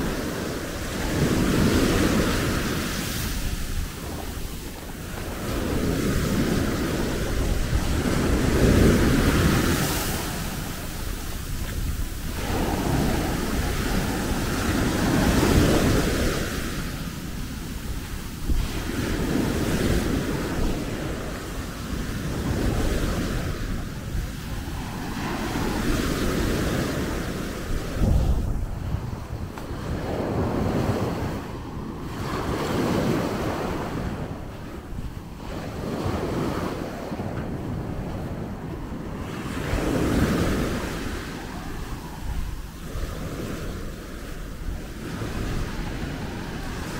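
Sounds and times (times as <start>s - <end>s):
sea waves breaking on shore: 0.0s - 46.9s
wind rumbling on microphone: 0.0s - 46.9s.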